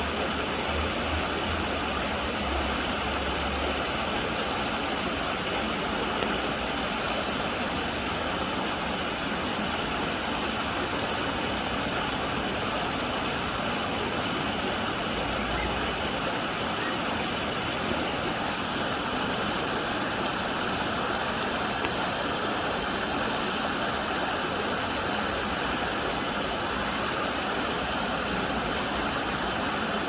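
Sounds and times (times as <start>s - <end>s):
water rushing in stream: 0.0s - 30.0s.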